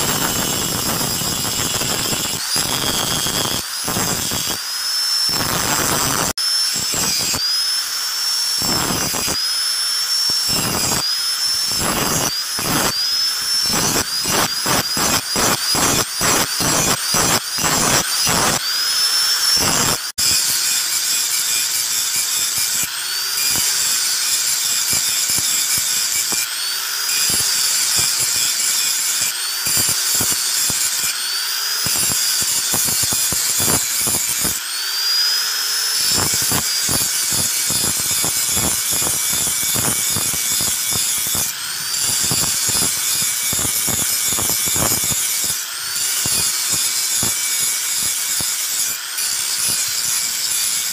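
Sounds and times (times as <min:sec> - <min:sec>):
angle grinder grinding metal: 0:00.0 - 0:50.9.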